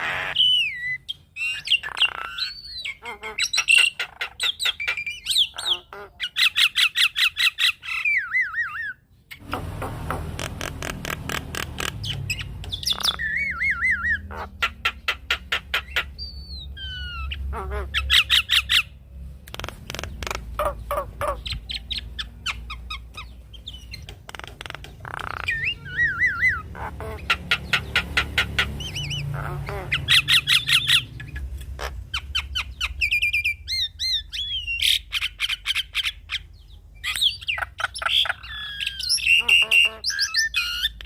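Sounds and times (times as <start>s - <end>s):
bird singing harsh notes and whistles: 0.0s - 19.0s, 20.2s - 41.0s.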